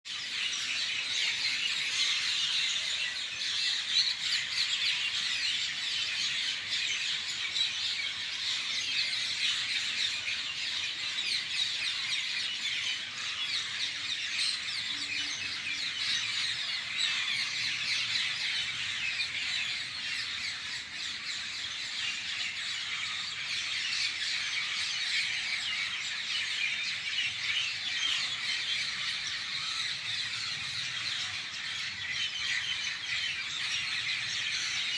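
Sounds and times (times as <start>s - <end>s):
chorus of birds chirping: 0.1s - 34.9s.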